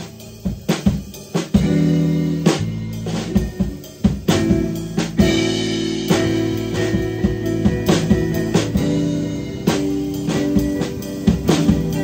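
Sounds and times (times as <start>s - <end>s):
bass guitar: 0.0s - 12.0s
drum and cymbal hits: 0.0s - 12.0s
electric guitar: 0.0s - 12.0s.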